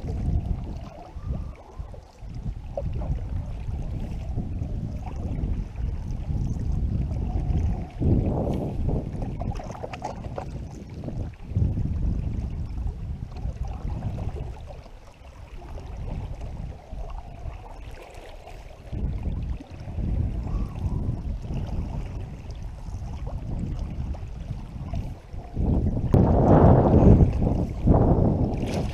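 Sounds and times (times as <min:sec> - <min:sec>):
paddle strokes: 0:00.0 - 0:11.0, 0:13.3 - 0:28.9
water sloshing along hull: 0:00.0 - 0:28.9
wind buffeting microphone: 0:00.0 - 0:28.9.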